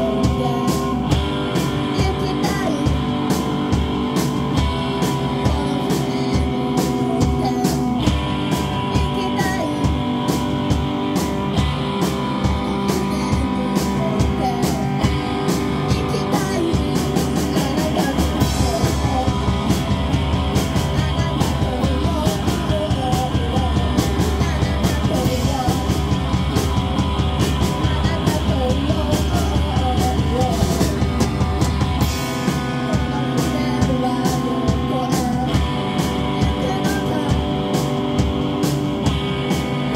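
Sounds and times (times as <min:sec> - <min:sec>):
woman singing: 0:00.0 - 0:39.1
drum kit beat: 0:00.0 - 0:39.9
electric guitar: 0:00.0 - 0:39.9.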